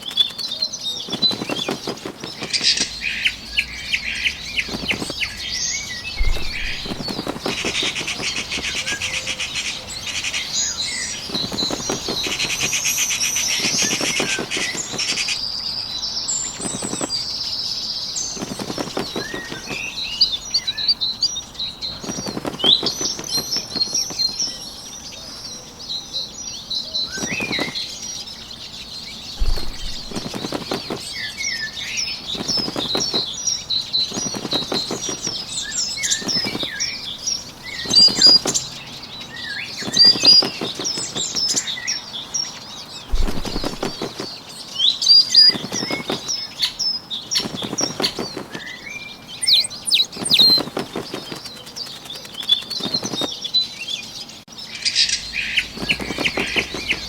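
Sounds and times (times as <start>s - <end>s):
bird wings flapping: 0.0s - 15.7s, 16.3s - 25.4s, 27.0s - 42.2s, 42.8s - 53.5s, 55.4s - 57.0s
small birds chirping: 0.0s - 57.0s.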